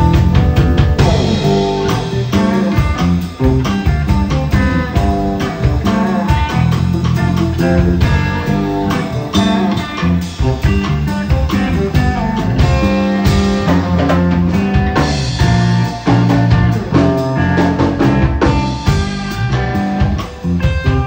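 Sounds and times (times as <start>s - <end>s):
bass line: 0.0s - 21.0s
electric guitar picked notes: 0.0s - 21.0s.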